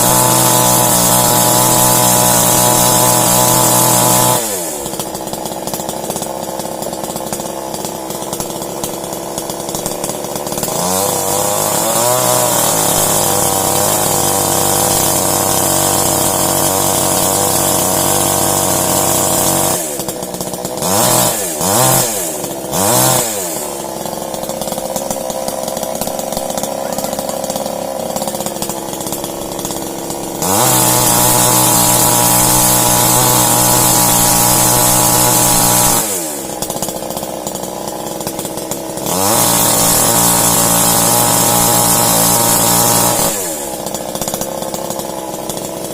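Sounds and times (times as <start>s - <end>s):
chainsaw engine idling and revving: 0.0s - 45.9s.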